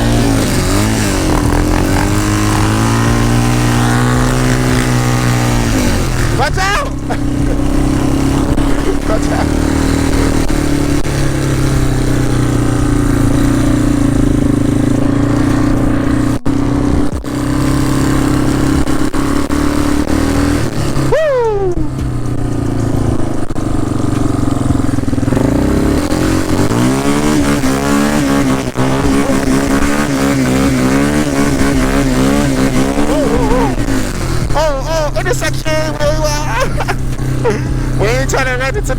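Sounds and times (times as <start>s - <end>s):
atv engines running: 0.0s - 38.9s.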